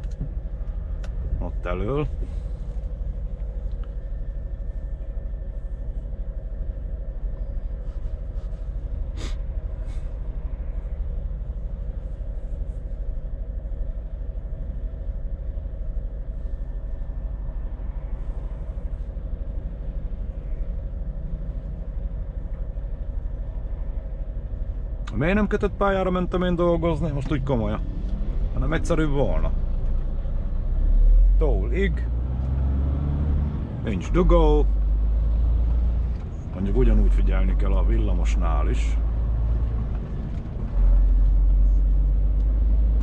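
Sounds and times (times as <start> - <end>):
truck engine rumble in cab: 0.0 - 43.0.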